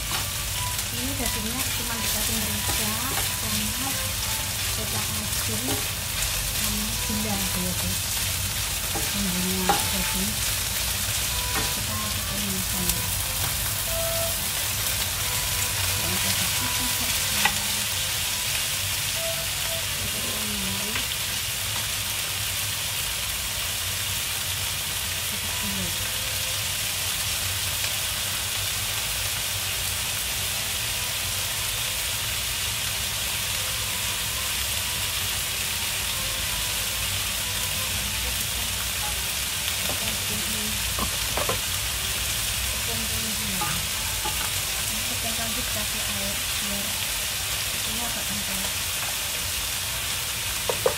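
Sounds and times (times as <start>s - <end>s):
food sizzling in a frying pan: 0.0s - 50.9s.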